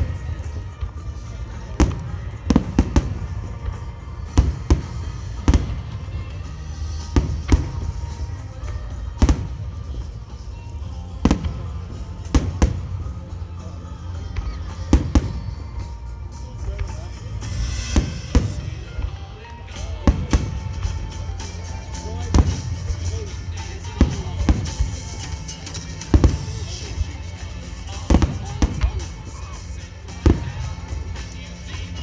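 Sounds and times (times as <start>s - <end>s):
fireworks booming: 0.0s - 32.0s
music from loudspeakers: 0.0s - 32.0s.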